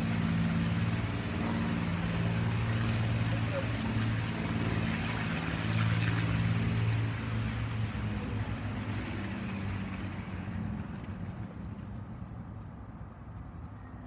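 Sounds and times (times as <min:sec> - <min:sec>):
propeller aircraft engine running: 0:00.0 - 0:14.0.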